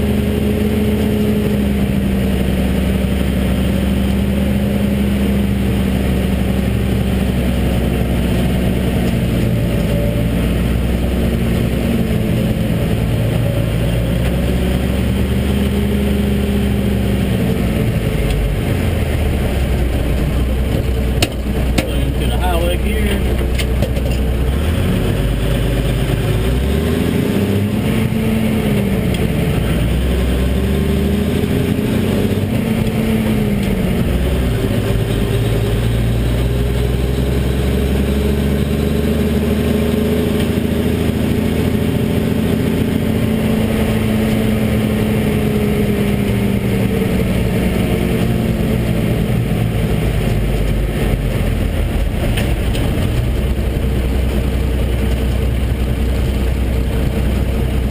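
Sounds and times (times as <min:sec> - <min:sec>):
truck diesel engine from cab: 0:00.0 - 0:57.9.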